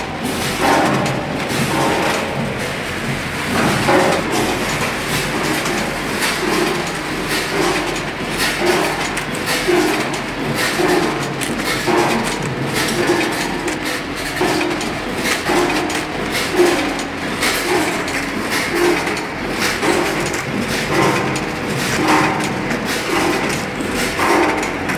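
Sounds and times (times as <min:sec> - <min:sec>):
bagging machine clattering: 0:00.0 - 0:24.9
steady mechanical hum: 0:00.0 - 0:24.9.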